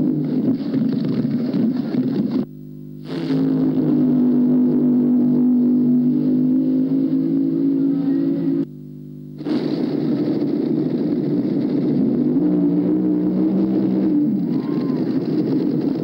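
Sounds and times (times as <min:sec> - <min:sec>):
car engine running loud: 0:00.0 - 0:08.7, 0:09.4 - 0:16.0.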